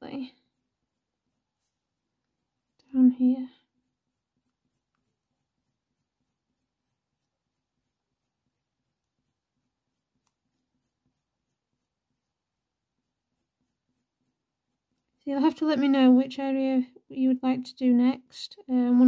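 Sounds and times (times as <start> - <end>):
pencil scratching on paper: 0.0 - 16.6.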